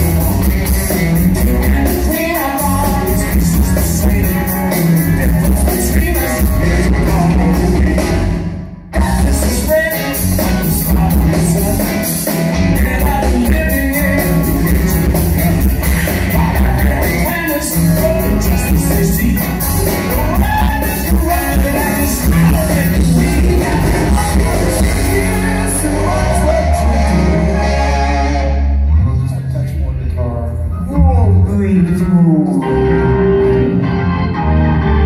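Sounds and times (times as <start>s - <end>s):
lead vocal singing: 0.0s - 28.9s
live rock band playing: 0.0s - 35.0s.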